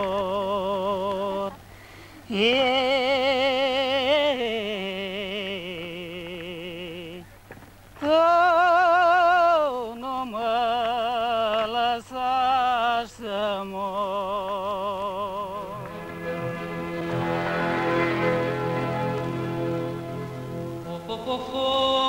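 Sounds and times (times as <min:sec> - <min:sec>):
person singing slow song: 0:00.0 - 0:07.3, 0:08.0 - 0:22.0.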